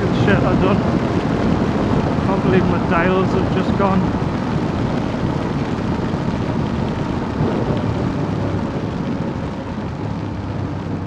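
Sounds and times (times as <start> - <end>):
wet road noise: 0.0 - 11.0
wind rush: 0.0 - 11.0.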